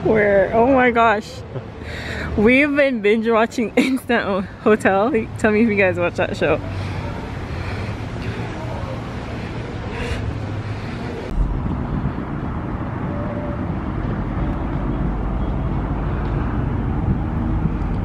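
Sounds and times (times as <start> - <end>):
cars passing rumble: 0.0 - 18.0.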